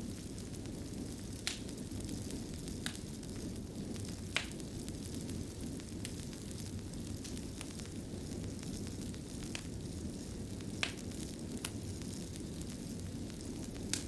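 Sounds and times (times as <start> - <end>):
sharp fire pops: 0.0 - 3.1, 3.8 - 14.0
wood fire crackling: 0.0 - 14.0.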